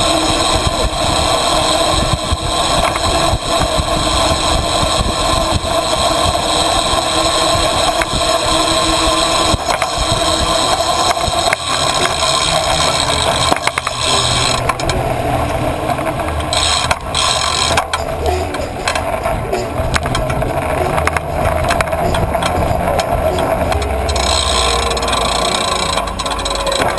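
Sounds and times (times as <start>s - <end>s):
bicycle knocking over bumps: 0.0s - 26.9s
bicycle rumbling over paving: 0.0s - 26.9s
road traffic: 0.0s - 26.9s.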